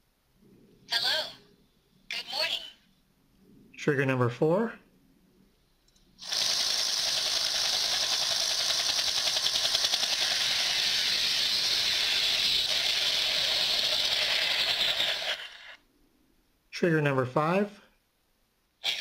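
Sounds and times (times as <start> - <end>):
steady hiss from small speaker: 0.0 - 19.0.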